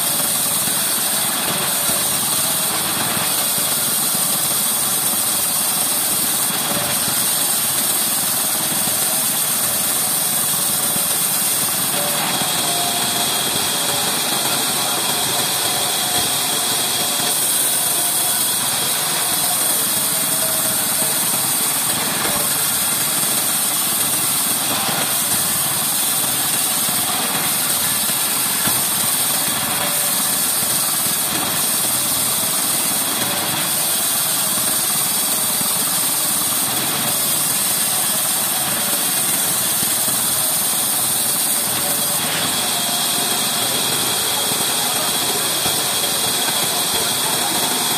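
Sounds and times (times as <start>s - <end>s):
band saw cutting wood: 0.0s - 47.9s.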